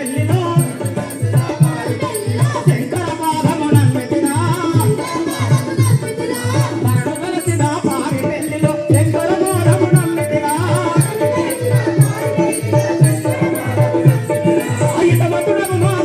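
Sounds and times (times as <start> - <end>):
dholak drum beat: 0.0 - 16.0
jingling rattle percussion: 0.0 - 16.0.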